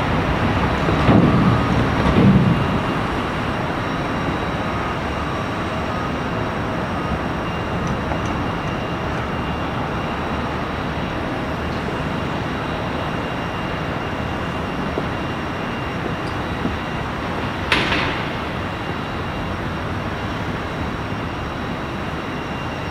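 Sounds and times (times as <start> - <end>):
jet engines roaring: 0.0 - 22.9.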